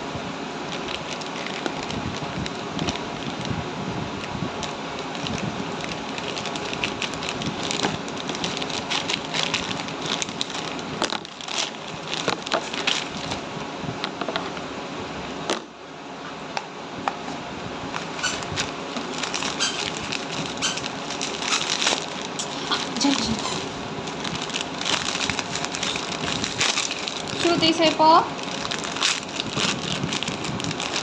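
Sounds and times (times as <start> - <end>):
plastic packaging crinkling: 0.6 - 14.6, 17.2 - 31.0.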